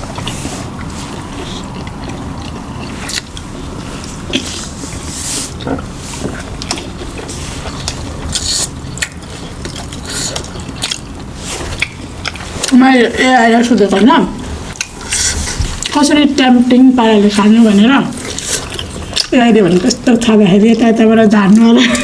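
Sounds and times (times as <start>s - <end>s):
chewing and crunching food: 0.0s - 22.0s
low background hum: 0.0s - 22.0s.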